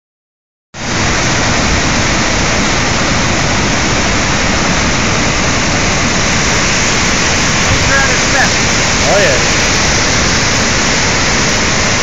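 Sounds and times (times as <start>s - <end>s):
roar of falling water: 0.8s - 12.0s.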